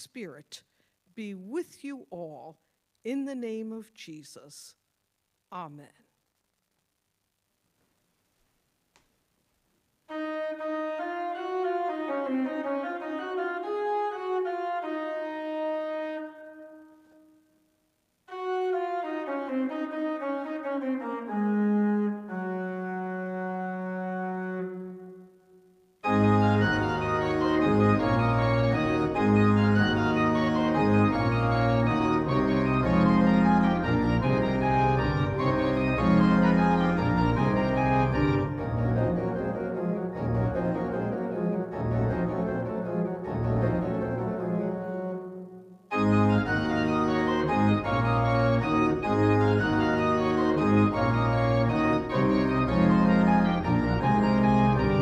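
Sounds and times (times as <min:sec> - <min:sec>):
church organ chords: 0:10.1 - 0:17.5, 0:18.3 - 0:55.0.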